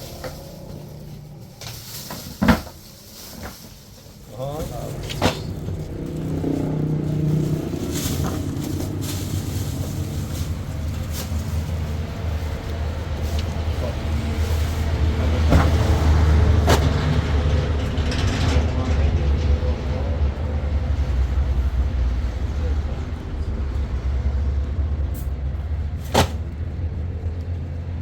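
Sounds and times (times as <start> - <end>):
vehicle engine low hum: 0.0 - 28.0.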